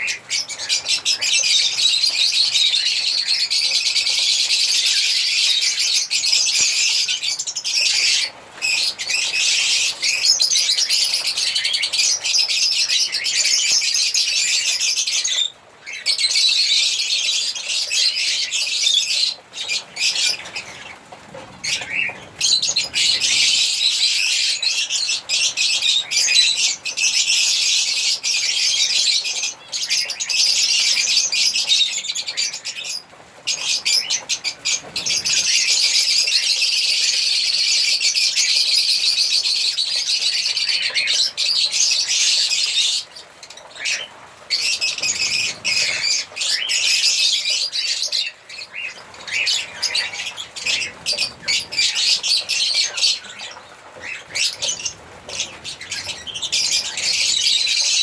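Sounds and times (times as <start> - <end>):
lovebirds chirping and twittering: 0.0 - 58.0.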